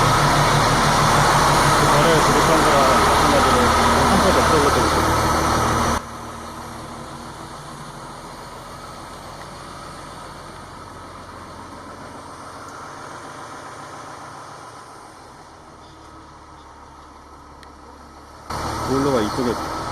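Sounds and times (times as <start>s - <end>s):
crane engine running: 0.0s - 19.9s.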